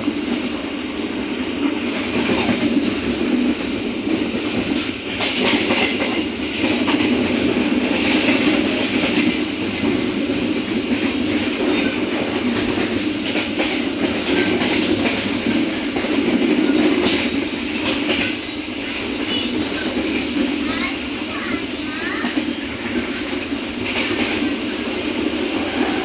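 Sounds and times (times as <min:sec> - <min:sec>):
train running at speed: 0:00.0 - 0:26.0.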